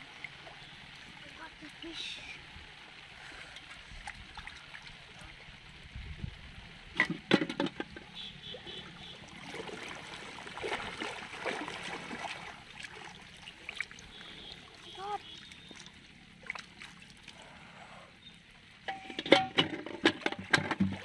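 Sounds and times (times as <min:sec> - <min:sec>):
water sloshing and splashing: 0:02.7 - 0:05.6, 0:06.9 - 0:21.0.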